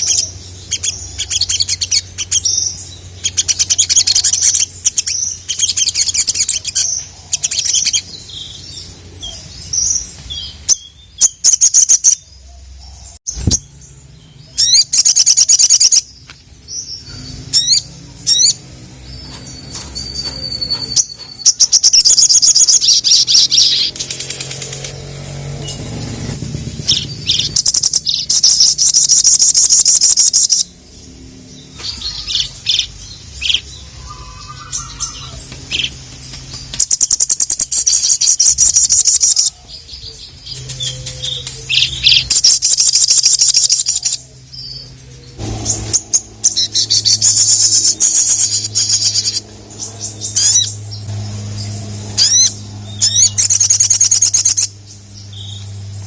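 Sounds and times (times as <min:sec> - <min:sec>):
bird high trilling song: 0:00.0 - 0:56.0.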